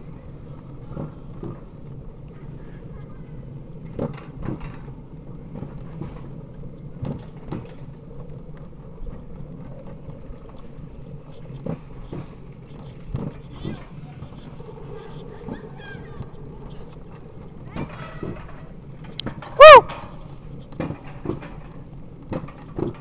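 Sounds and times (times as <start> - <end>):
wheels rumbling on rails: 0.0 - 23.0.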